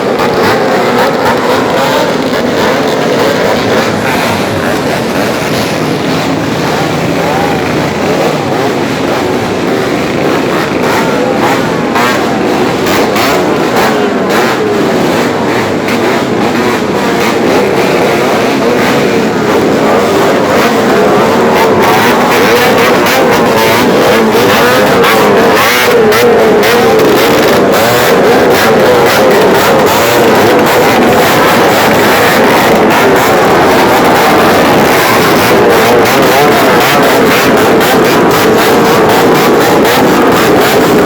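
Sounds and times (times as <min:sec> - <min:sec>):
motorcycles revving: 0:00.0 - 0:41.0.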